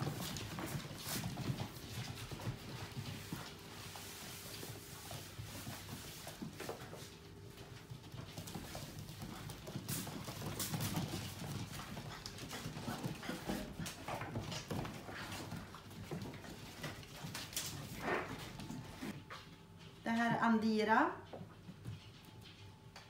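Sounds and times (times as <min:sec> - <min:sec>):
puppy claws clicking on hard floor: 0:00.0 - 0:19.5.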